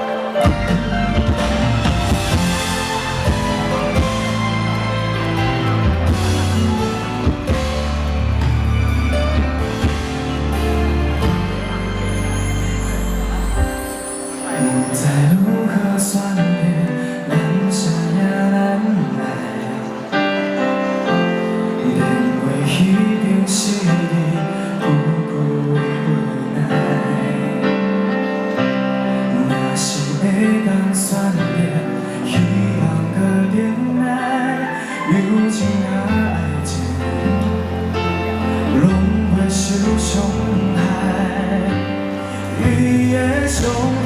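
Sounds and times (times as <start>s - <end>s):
live pop band over sound system: 0.0s - 44.0s.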